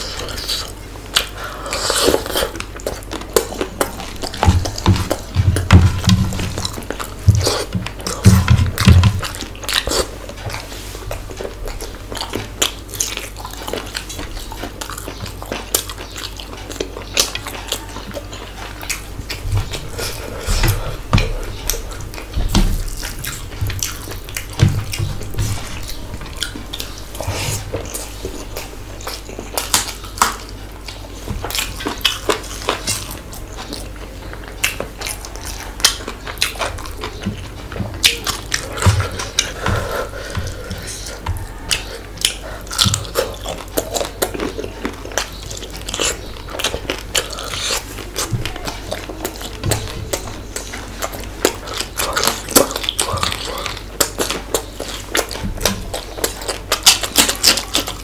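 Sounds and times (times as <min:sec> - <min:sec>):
wet chewing and lip smacks: 0:00.0 - 0:58.0.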